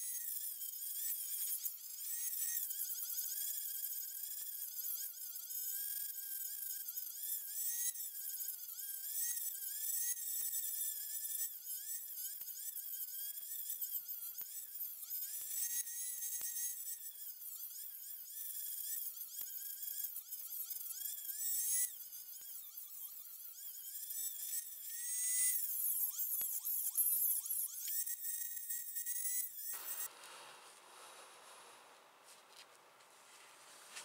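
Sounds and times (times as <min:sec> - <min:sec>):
rotary tool grinding steel: 0:00.0 - 0:34.0.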